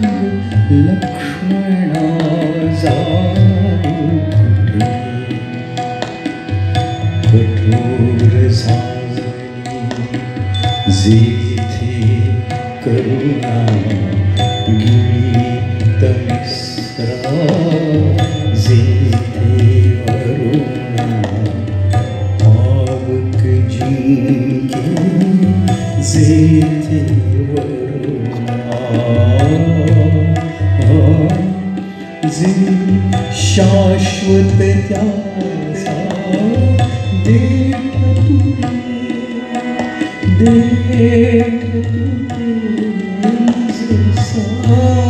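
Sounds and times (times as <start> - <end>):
harmonium and keyboard melody: 0.0 - 45.0
tabla playing a steady rhythm: 0.0 - 45.0.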